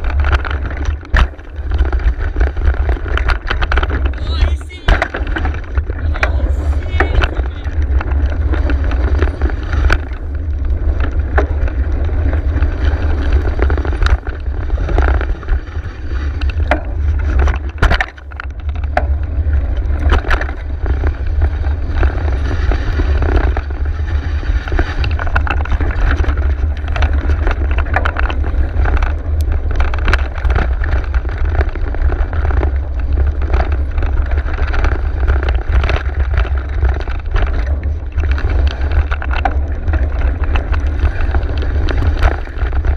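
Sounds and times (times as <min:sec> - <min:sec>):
bike rattling over bumps: 0:00.0 - 0:42.9
bike tyres on dirt trail: 0:00.0 - 0:42.9
wind buffeting on microphone: 0:00.0 - 0:42.9.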